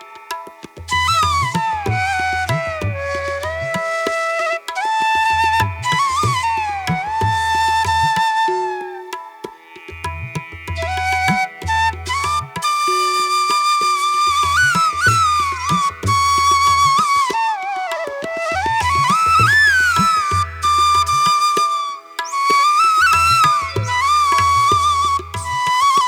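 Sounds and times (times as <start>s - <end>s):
flute-like gliding melody: 0.9s - 9.6s, 10.8s - 26.0s.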